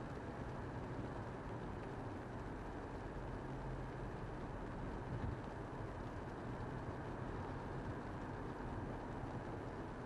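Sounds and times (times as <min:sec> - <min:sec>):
car driving road noise: 0:00.1 - 0:10.0.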